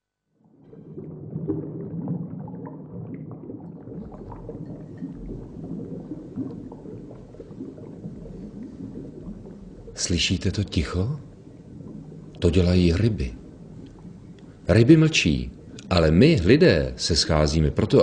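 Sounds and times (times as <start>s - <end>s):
underwater bubbling and gurgling: 0.4s - 18.0s
low steady rumble: 0.6s - 17.2s.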